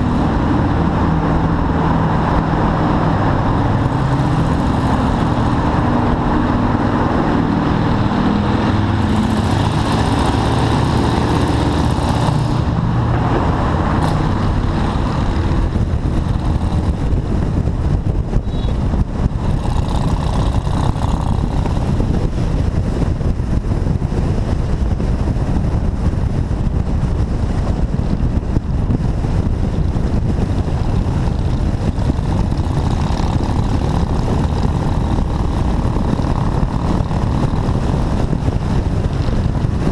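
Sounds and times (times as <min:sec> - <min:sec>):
motorcycle engine: 0:00.0 - 0:39.9
road and wind roar: 0:00.0 - 0:39.9.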